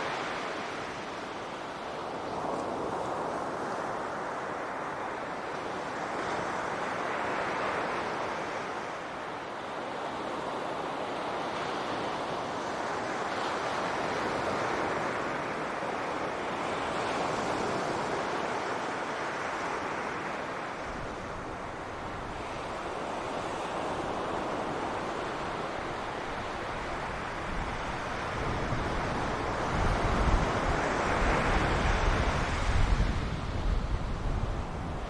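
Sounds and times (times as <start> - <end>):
ocean waves on beach: 0.0 - 35.0.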